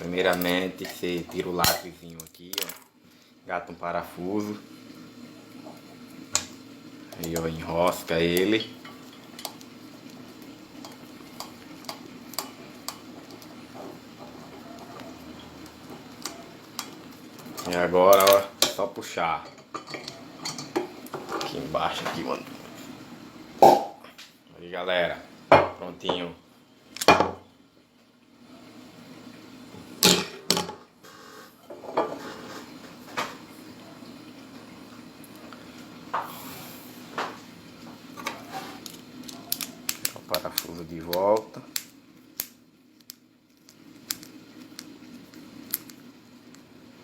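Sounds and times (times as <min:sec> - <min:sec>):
faint steady hiss: 0:00.0 - 0:47.0.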